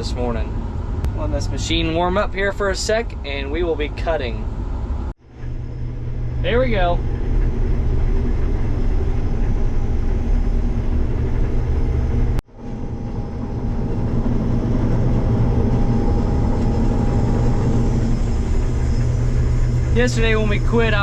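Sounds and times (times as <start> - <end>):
combine harvester running: 0.0 - 21.0.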